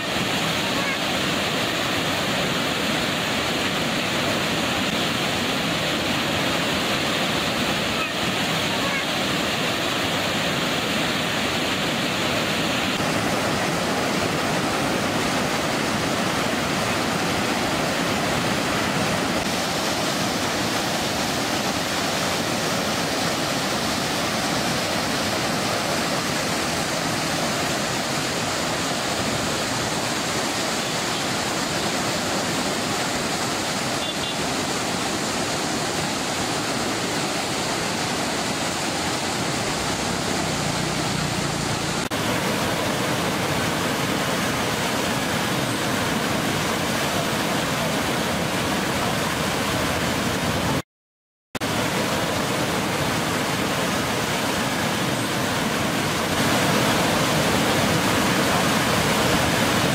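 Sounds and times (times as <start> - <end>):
rushing churning white water: 0.0 - 50.8, 51.6 - 59.9.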